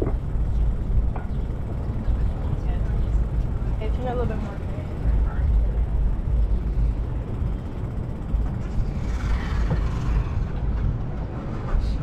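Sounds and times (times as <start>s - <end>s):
street traffic noise: 0.0s - 12.0s
wind rumble on microphone: 0.0s - 12.0s.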